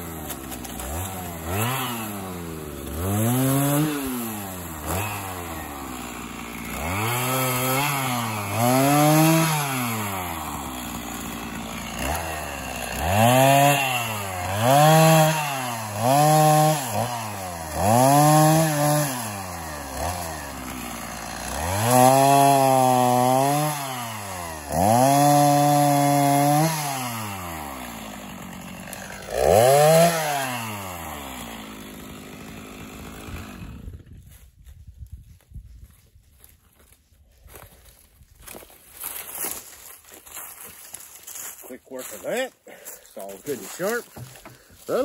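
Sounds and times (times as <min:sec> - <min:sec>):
chainsaw revving and idling: 0:00.0 - 0:34.2, 0:38.4 - 0:45.0.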